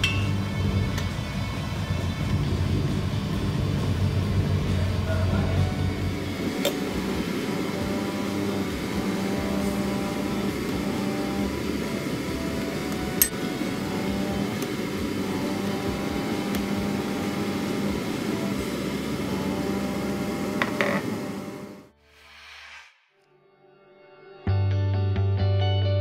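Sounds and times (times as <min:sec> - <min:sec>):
stew boiling hard in a pan: 0:00.0 - 0:21.9
low hum: 0:00.0 - 0:23.0.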